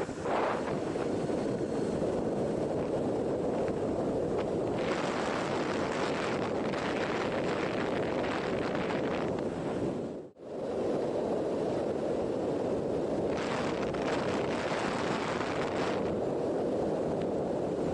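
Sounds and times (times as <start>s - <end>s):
wind rushing over microphone: 0.0s - 17.9s.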